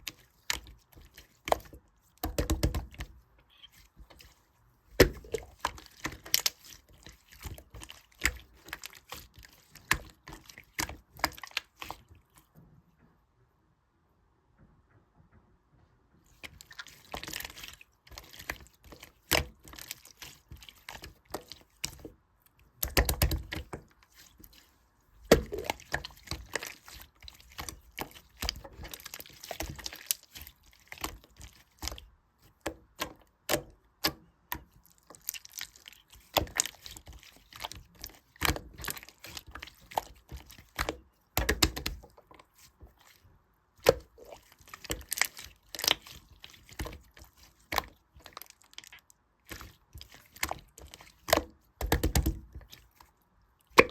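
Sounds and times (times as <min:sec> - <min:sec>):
slime squished by hand: 0:00.0 - 0:12.5, 0:16.3 - 0:53.9.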